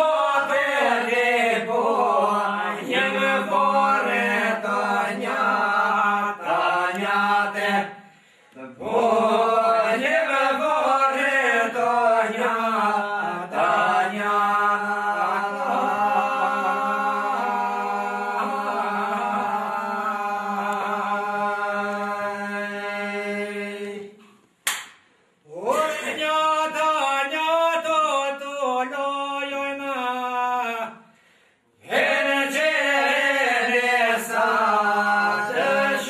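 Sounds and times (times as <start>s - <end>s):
men singing a held drone: 0.0s - 24.3s, 25.5s - 31.1s, 31.8s - 36.0s.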